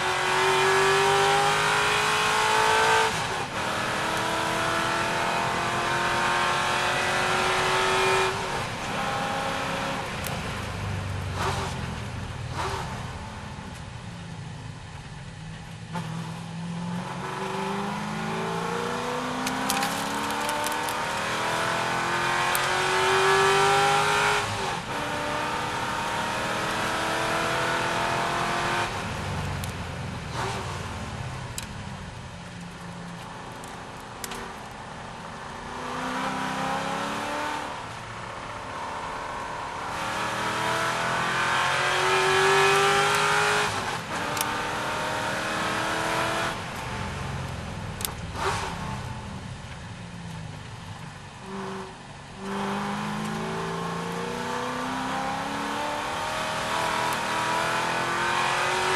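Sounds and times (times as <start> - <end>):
car engine accelerating through gears: 0.0 - 13.9, 15.6 - 31.8, 32.6 - 58.9.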